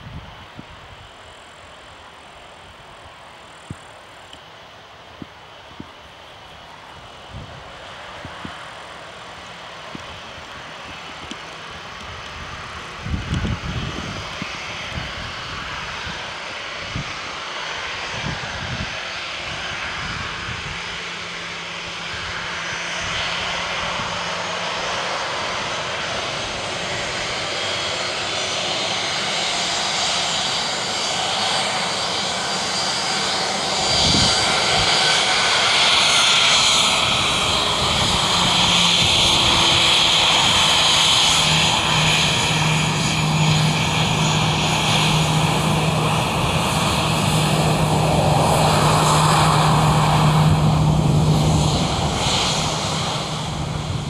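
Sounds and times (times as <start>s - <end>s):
jet engines whining: 0.1s - 54.0s.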